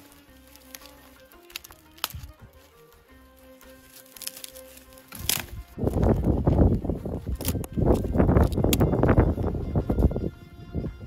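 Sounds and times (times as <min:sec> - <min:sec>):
dry twigs snapping: 0:00.0 - 0:09.2
quiet background music: 0:00.0 - 0:11.0.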